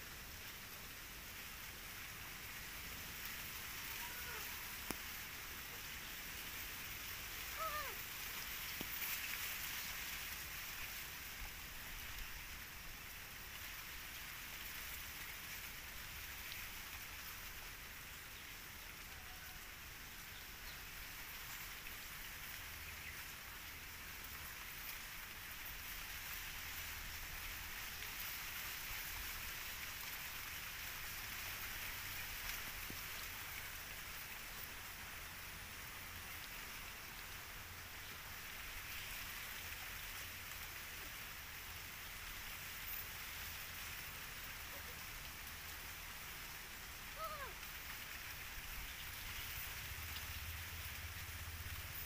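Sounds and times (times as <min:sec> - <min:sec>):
faint outdoor hiss: 0:00.0 - 0:52.0.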